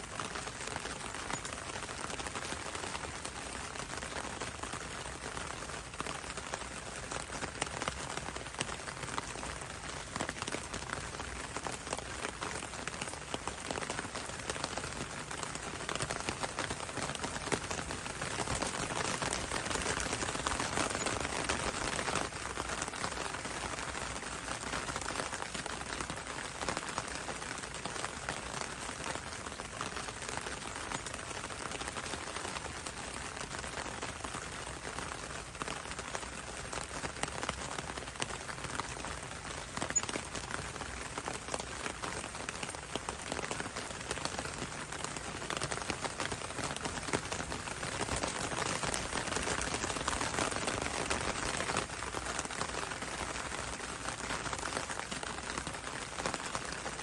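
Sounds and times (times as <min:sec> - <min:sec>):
rain falling on leaves: 0:00.0 - 0:57.0.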